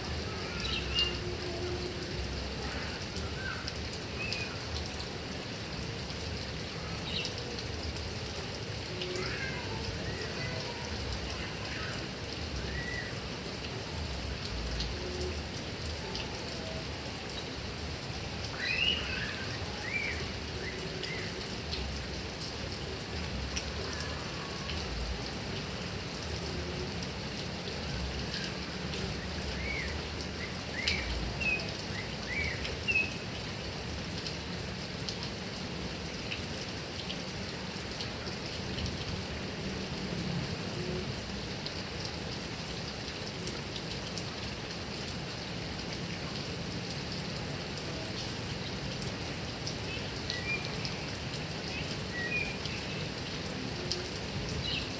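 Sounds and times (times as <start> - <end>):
heavy rain on grass and trees: 0.0 - 54.9.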